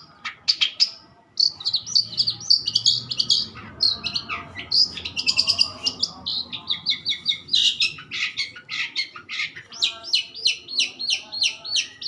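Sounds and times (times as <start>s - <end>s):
shrike singing: 0.0s - 12.0s.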